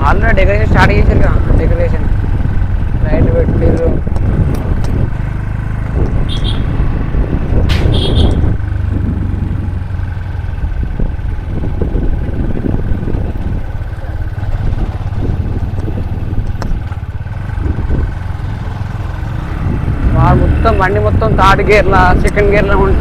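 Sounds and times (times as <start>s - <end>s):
motorcycle engine rumble: 0.0s - 23.0s
wind rumble on microphone: 0.0s - 23.0s.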